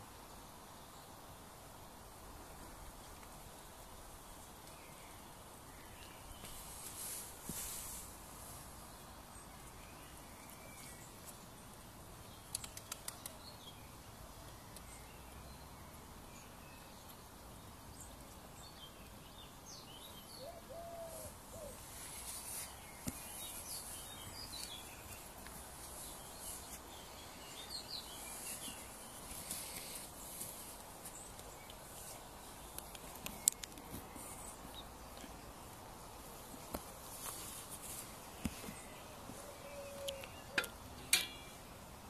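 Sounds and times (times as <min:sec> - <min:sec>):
small birds chirping: 0:02.6 - 0:42.0.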